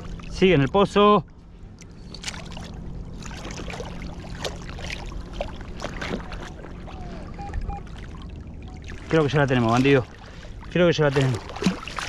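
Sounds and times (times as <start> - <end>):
steady low hum: 0.0 - 12.0
water splashing and sloshing: 0.0 - 12.0.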